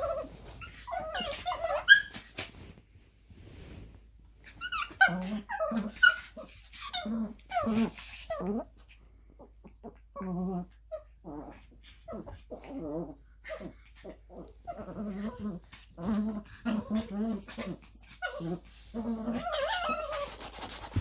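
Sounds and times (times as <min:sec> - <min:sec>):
small dogs growling and whining: 0:00.0 - 0:02.7, 0:04.4 - 0:20.5.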